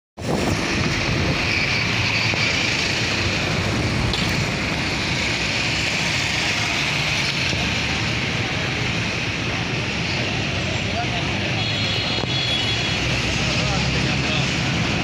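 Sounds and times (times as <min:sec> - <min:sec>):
vehicle engine and road noise: 0:00.2 - 0:15.0.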